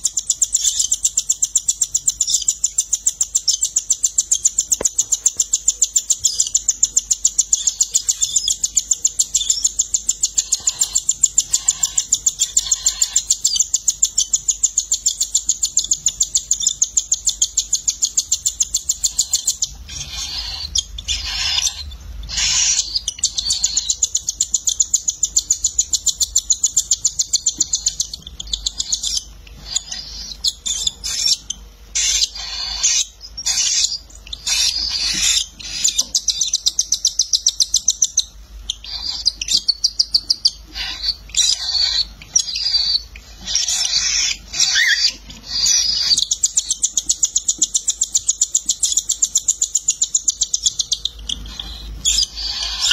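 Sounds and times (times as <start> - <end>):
chicks high-pitched begging calls: 0.0 - 52.9.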